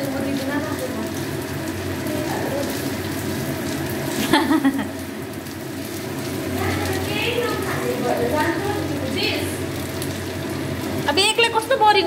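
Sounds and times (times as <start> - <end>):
corn sizzling in oil: 0.0 - 12.0.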